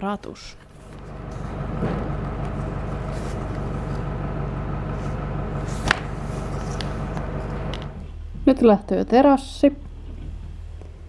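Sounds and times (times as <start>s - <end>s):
engine running steadily: 0.6s - 11.0s.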